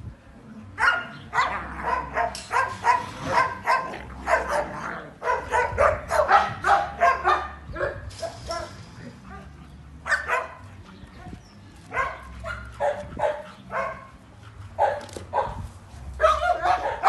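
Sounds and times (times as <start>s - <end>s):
dogs barking: 0.8s - 15.6s, 16.2s - 17.0s.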